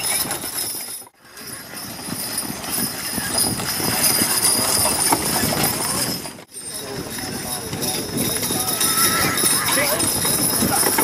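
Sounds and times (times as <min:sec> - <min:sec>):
horse hooves clip-clopping: 0:00.0 - 0:11.0.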